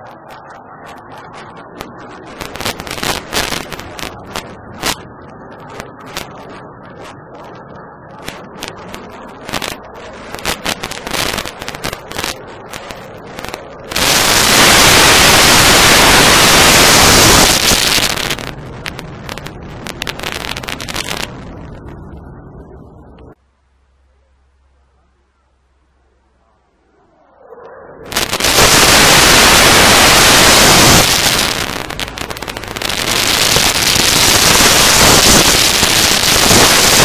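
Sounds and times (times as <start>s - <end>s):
jet roaring overhead: 0.0s - 23.4s, 25.9s - 37.0s.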